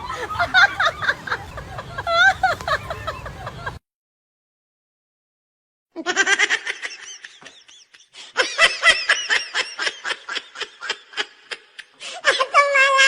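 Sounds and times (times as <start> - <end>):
high-pitched laughter: 0.0 - 3.8, 6.0 - 13.0.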